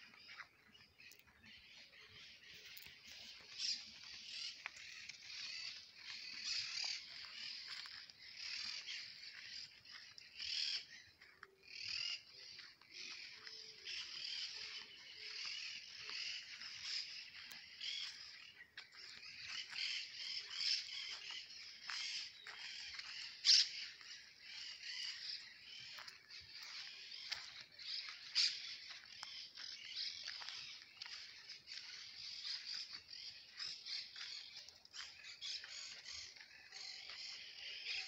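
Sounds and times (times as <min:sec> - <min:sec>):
birds chirping chorus: 0:00.0 - 0:38.0
sharp bird calls: 0:00.0 - 0:38.0.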